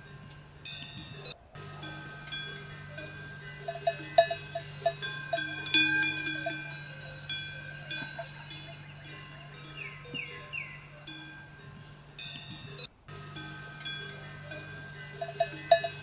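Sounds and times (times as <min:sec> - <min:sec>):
metal bells clanking: 0:00.0 - 0:16.0.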